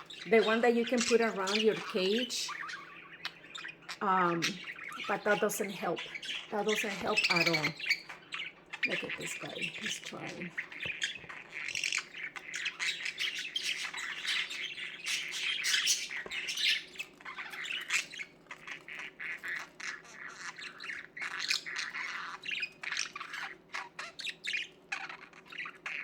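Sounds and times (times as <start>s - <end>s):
budgerigars chattering: 0.0s - 26.0s.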